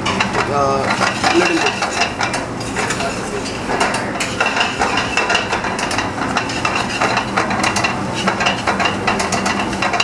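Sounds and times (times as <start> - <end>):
steady background hum: 0.0 - 10.0
metal spoon scraping a pan: 0.2 - 10.0.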